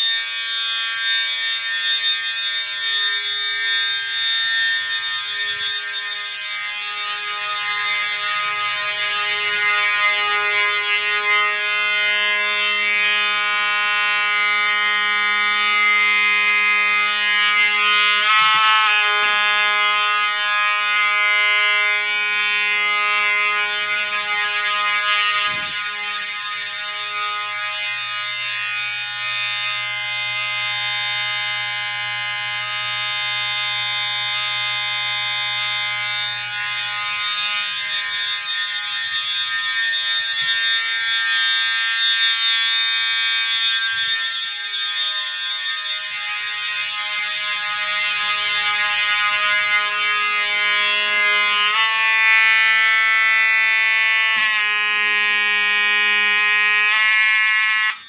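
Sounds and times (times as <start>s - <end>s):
fire alarm horns sounding: 0.0s - 58.0s.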